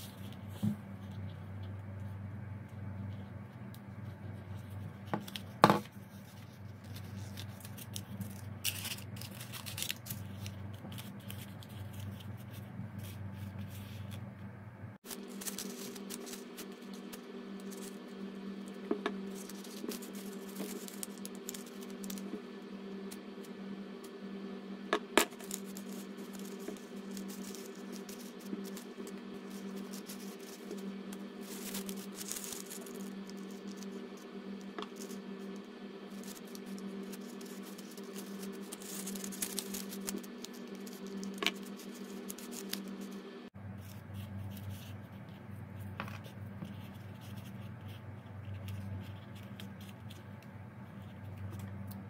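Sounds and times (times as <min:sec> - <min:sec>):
paper rustling and scraping: 0:00.0 - 0:02.1, 0:03.9 - 0:14.3, 0:15.0 - 0:24.2, 0:25.0 - 0:51.9
steady low hum: 0:00.0 - 0:52.0.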